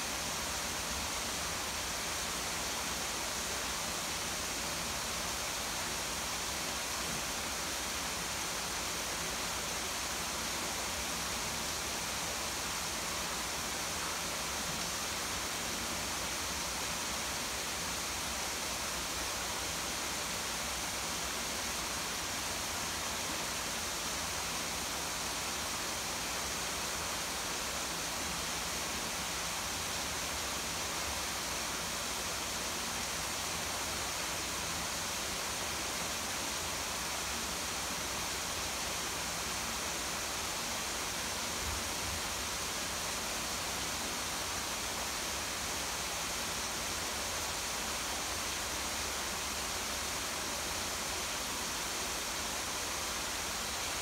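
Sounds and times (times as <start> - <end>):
rain falling on a garden: 0.0 - 54.0
small garden waterfall: 0.0 - 54.0.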